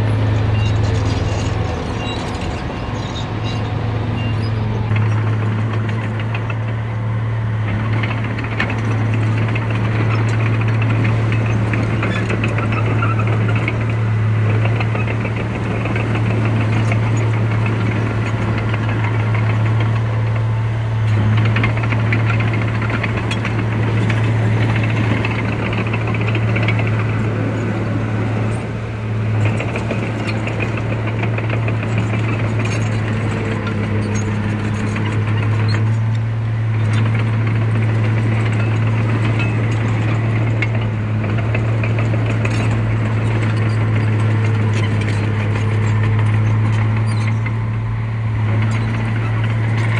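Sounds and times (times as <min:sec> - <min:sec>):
diesel engine knocking clatter: 0:00.0 - 0:49.9.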